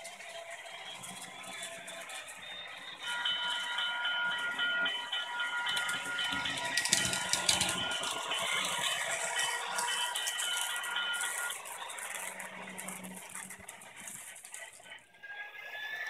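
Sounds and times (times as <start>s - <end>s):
model train wheels clattering: 0.0s - 15.1s
electronic crossing bell ringing: 0.0s - 16.0s.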